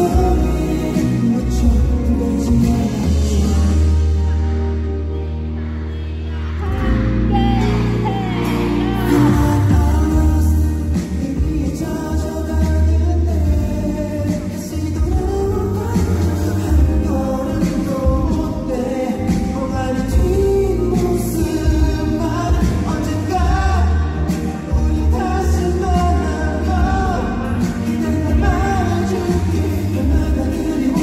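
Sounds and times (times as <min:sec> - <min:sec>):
man singing into a microphone: 0:00.0 - 0:04.5, 0:06.6 - 0:31.0
instrumental accompaniment with bass: 0:00.0 - 0:31.0.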